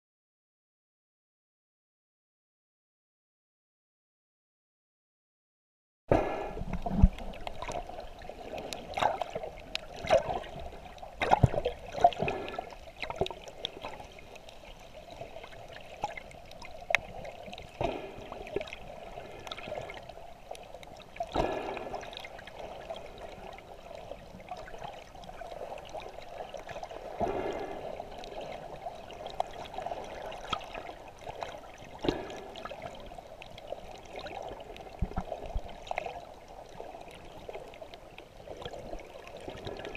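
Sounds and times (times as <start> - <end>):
muffled underwater rush: 6.1 - 39.9.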